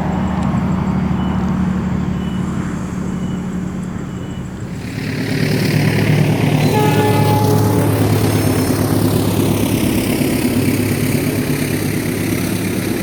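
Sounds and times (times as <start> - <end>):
locomotive engine droning: 0.0 - 13.0
wheels hissing on track: 0.0 - 13.0.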